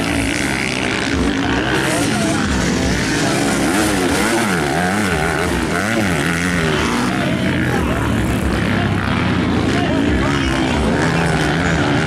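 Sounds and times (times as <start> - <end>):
dirt bike engines revving: 0.0 - 12.0
other bikes droning: 0.0 - 12.0.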